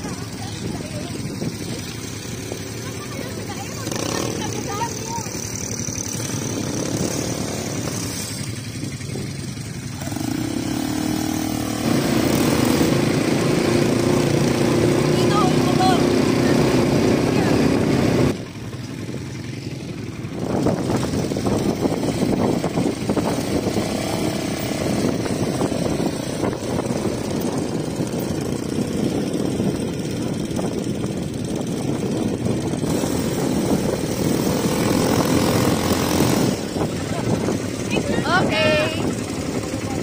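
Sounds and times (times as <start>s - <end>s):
quad bike engines running: 0.0s - 40.0s.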